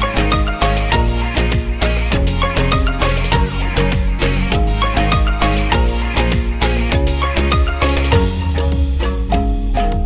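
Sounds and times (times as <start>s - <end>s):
bright struck melody over a beat: 0.0s - 10.0s.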